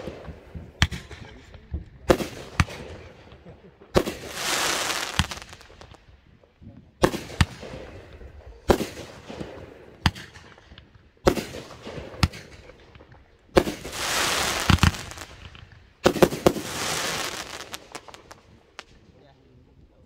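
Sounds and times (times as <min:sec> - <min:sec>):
fireworks sharp bangs: 0:00.0 - 0:06.2, 0:06.9 - 0:19.2
fireworks dense crackling: 0:00.0 - 0:19.7.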